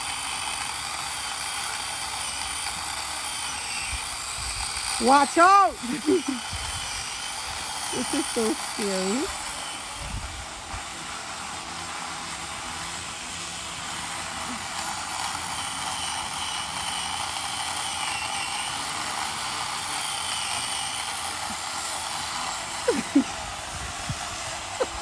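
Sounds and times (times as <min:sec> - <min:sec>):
electric chainsaw cutting wood: 0:00.0 - 0:25.0.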